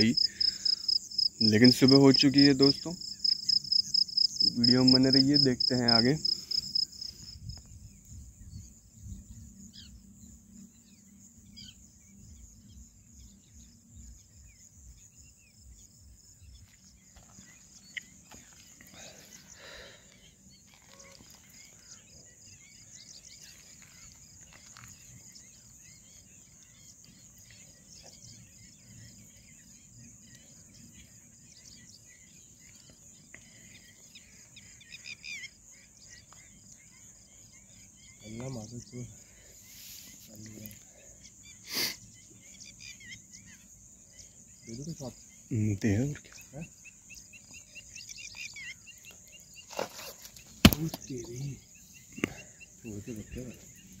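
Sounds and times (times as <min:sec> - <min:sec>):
crickets chirring: 0:00.0 - 0:54.0
faint bird chirps: 0:00.0 - 0:54.0.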